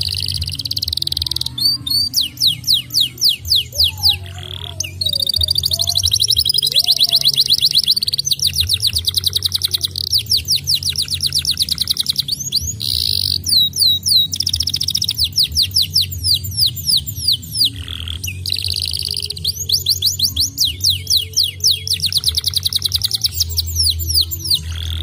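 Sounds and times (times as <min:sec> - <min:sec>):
canary singing: 0:00.0 - 0:25.0.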